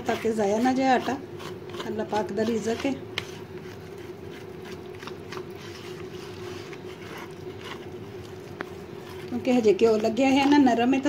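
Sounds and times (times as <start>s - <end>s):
hands kneading oily dough: 0.0s - 11.0s.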